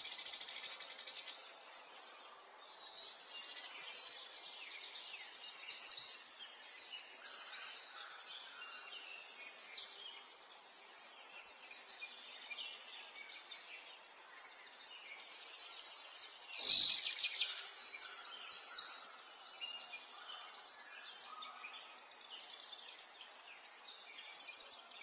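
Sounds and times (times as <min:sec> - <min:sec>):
faint outdoor hiss: 0:00.0 - 0:25.0.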